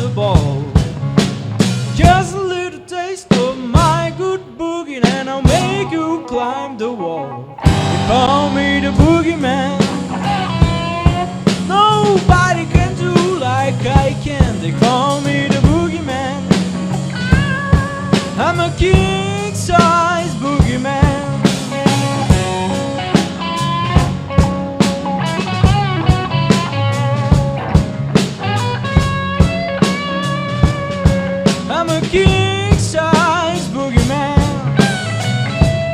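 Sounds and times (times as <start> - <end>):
drum kit beat: 0.0 - 6.3, 7.6 - 35.9
bass guitar: 0.0 - 35.9
blues band playing live: 0.0 - 35.9
lead guitar bending notes: 5.3 - 35.9.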